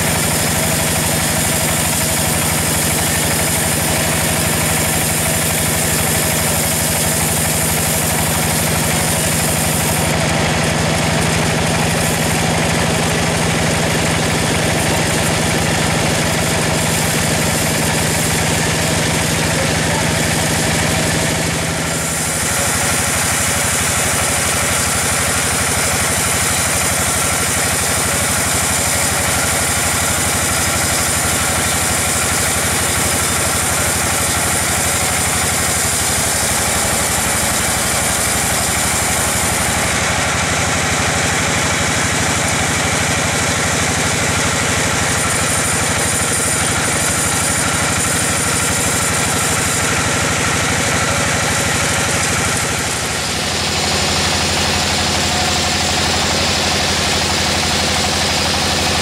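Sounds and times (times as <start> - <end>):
bandsaw mill running: 0.0 - 59.0
high whine of saw cut: 0.0 - 59.0.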